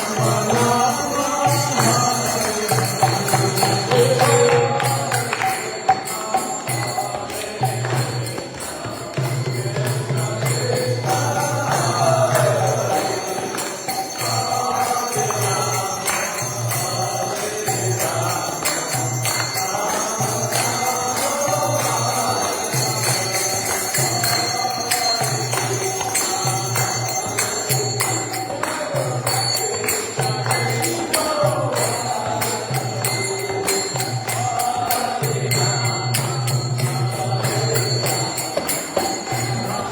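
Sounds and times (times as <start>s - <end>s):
group chanting a devotional song: 0.0s - 39.9s
jingling hand cymbals: 0.0s - 39.9s.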